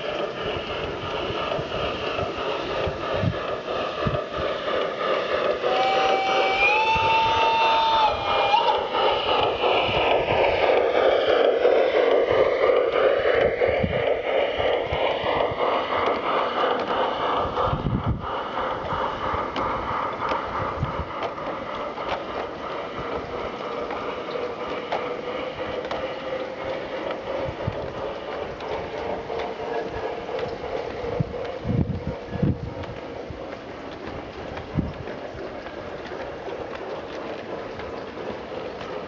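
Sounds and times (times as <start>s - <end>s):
light track clicks: 0.0s - 39.0s
model train wheels rumbling on track: 0.0s - 39.0s.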